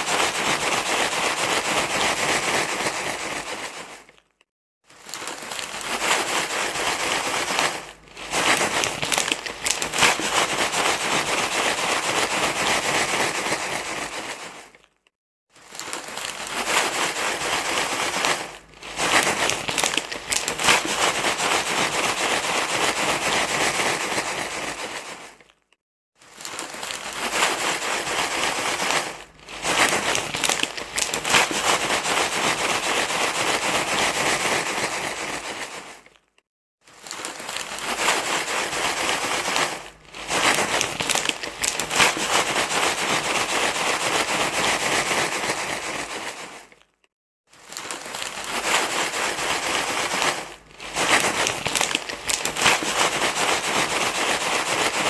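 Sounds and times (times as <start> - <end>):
loud crinkling rustle: 0.0 - 55.0.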